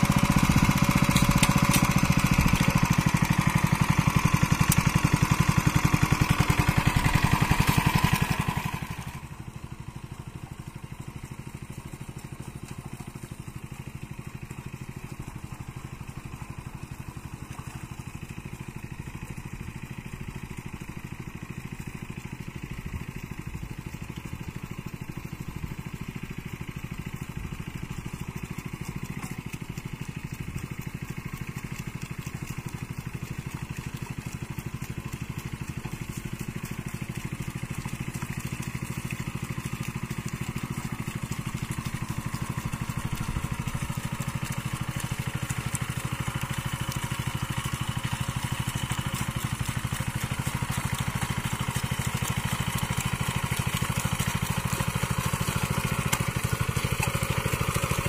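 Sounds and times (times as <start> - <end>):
hand tractor engine running: 0.0 - 58.0.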